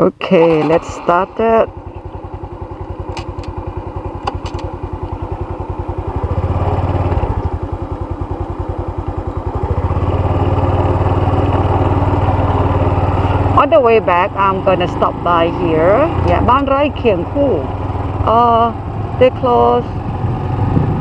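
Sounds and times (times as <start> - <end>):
motorbike engine pulling away: 0.4 - 21.0.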